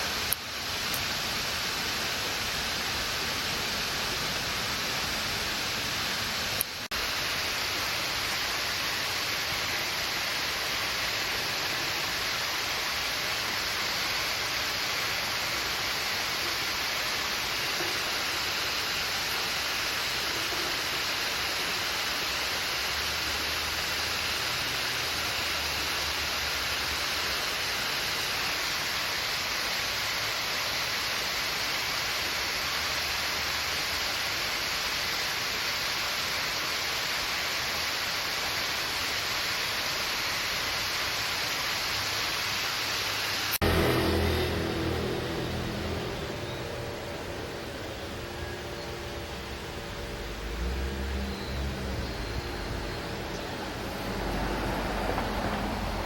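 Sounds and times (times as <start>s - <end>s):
stream water flowing: 0.0s - 43.6s, 44.5s - 56.0s.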